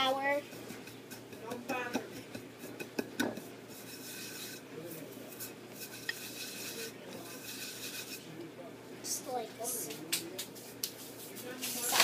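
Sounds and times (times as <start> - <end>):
hands rubbing flour on plate: 0.1 - 8.3, 9.7 - 12.0.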